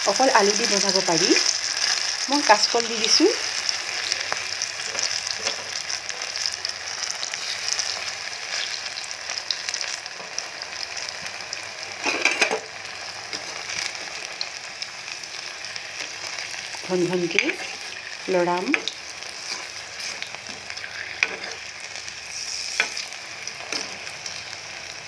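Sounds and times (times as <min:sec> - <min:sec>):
batter deep-frying in oil: 0:00.0 - 0:25.0.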